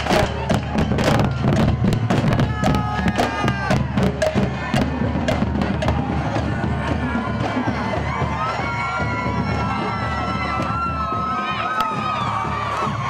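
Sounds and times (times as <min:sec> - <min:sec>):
bass drums beating: 0:00.0 - 0:13.0
marching band playing: 0:00.0 - 0:13.0.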